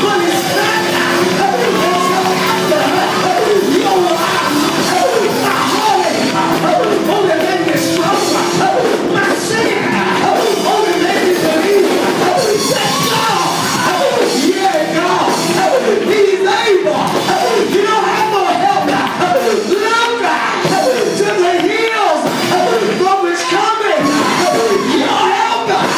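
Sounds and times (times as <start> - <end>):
band playing held chords: 0.0 - 25.9
person singing: 0.0 - 25.9.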